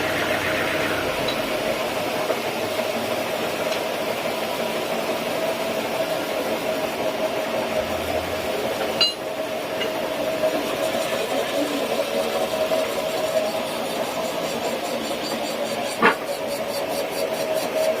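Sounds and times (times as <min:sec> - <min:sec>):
sawmill machinery humming: 0:00.0 - 0:18.0.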